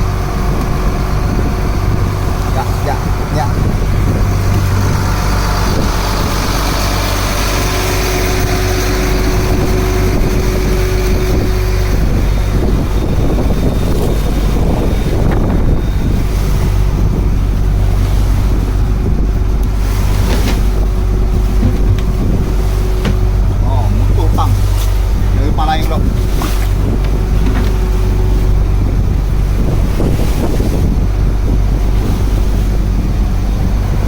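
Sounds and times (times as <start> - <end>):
boat engine humming: 0.0 - 34.0
wind on microphone: 0.0 - 34.0.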